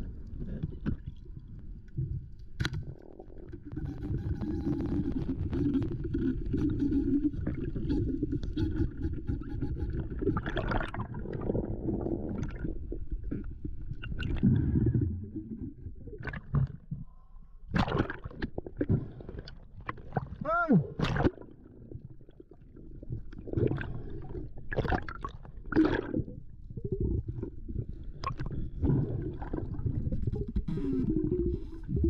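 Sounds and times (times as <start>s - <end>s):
underwater rumble of water: 0.0s - 32.0s.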